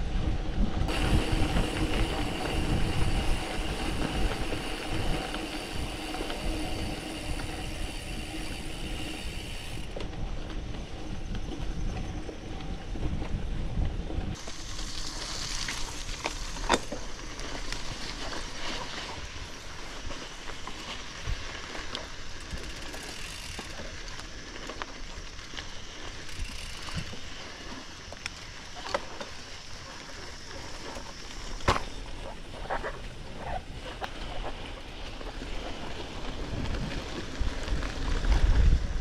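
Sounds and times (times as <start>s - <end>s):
bike knocking and rattling: 0.0s - 39.0s
bike tyres rolling on gravel: 0.0s - 39.0s.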